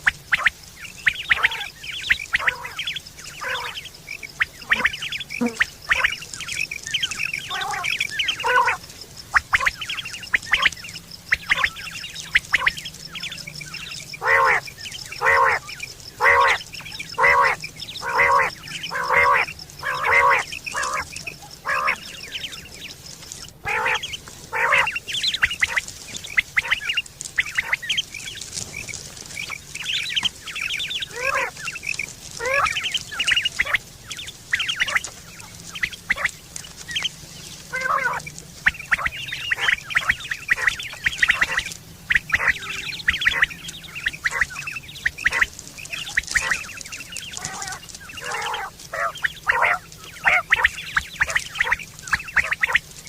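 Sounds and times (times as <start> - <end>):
quail calling: 0.0 - 53.0.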